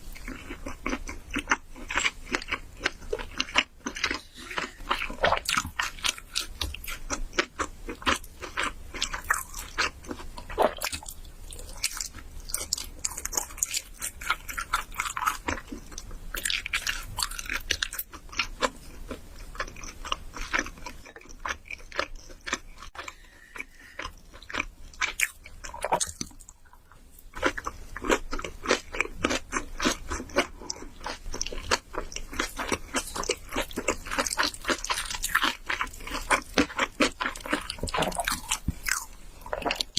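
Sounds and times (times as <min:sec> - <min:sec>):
wet chewing and mouth clicks: 0:00.0 - 0:39.9.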